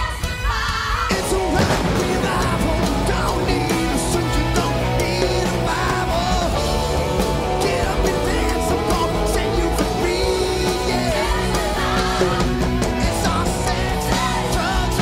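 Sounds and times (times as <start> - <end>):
drums: 0.0 - 15.0
electric guitar: 0.0 - 15.0
man singing: 1.0 - 15.0.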